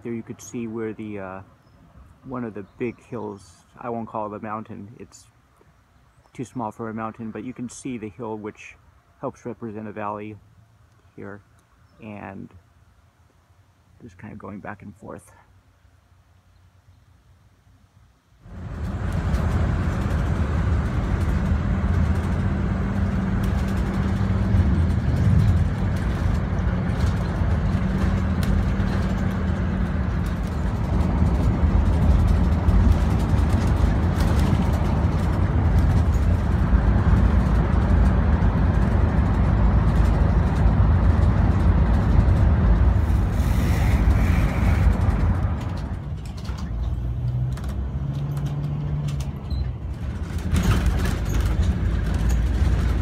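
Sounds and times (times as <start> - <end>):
bus engine and road noise: 0.0 - 16.3, 17.3 - 53.0.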